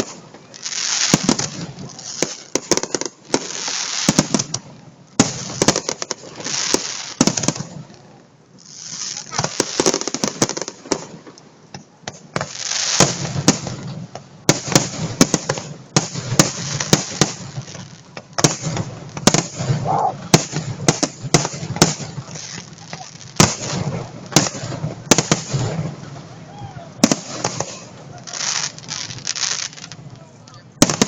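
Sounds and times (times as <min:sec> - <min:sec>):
fireworks banging: 0:00.0 - 0:08.0, 0:08.6 - 0:31.0.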